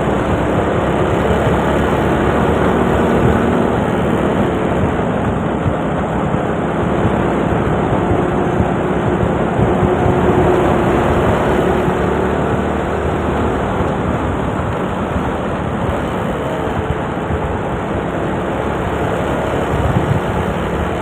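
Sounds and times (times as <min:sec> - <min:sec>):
faint truck hum: 0:00.0 - 0:21.0
scooter engine: 0:00.0 - 0:21.0
wind and road noise: 0:00.0 - 0:21.0.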